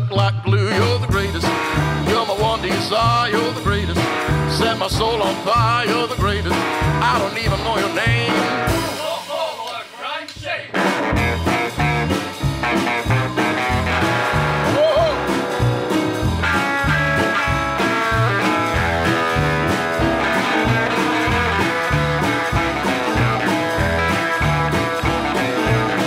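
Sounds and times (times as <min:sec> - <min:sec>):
rock and roll band playing: 0:00.0 - 0:26.0.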